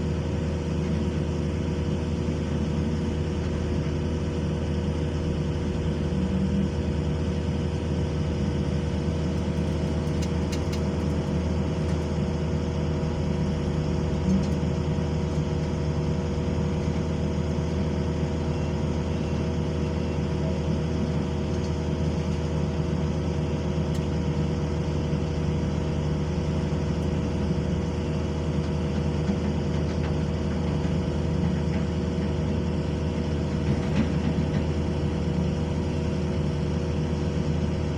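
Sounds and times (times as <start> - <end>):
diesel engine humming: 0.0 - 37.9.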